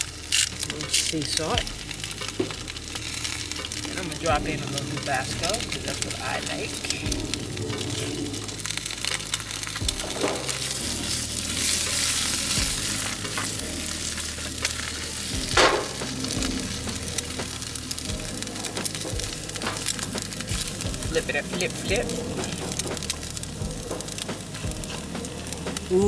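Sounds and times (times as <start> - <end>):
egg sizzling in a pan: 0.0 - 26.0.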